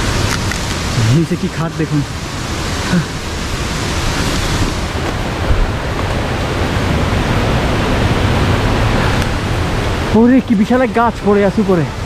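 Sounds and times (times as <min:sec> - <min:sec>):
rushing hill stream: 0:00.0 - 0:12.0.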